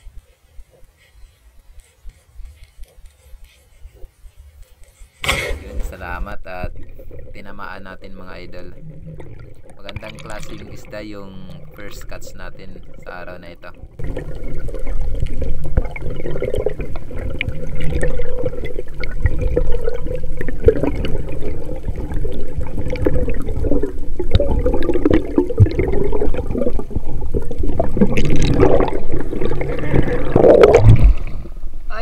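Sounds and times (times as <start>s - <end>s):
water sloshing and bubbling: 0.0s - 32.0s.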